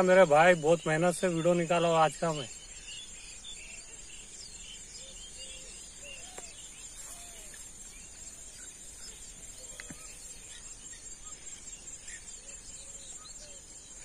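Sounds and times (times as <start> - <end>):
high-pitched insect chorus: 0.0 - 14.0
short insect chirps: 0.8 - 14.0.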